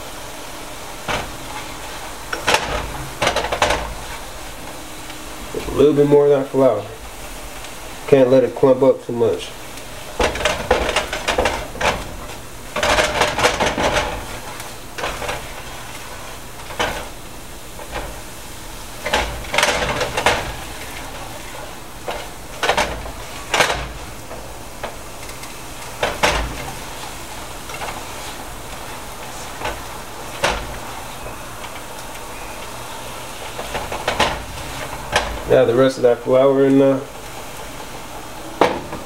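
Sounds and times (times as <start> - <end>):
roux sizzling in a pan: 0.0 - 38.7
utensil scraping a pan: 0.0 - 39.0.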